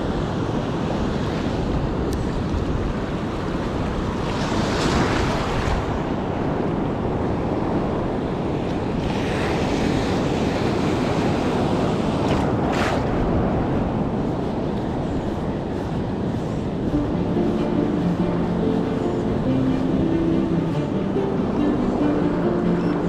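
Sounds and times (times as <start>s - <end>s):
sea surf breaking: 0.0s - 23.0s
wind on microphone: 0.0s - 23.0s.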